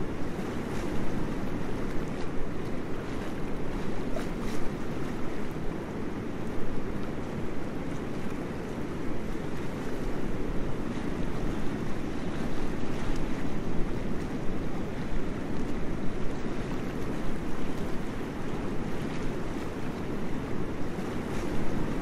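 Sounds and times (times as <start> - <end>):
rushing river water: 0.0 - 22.0.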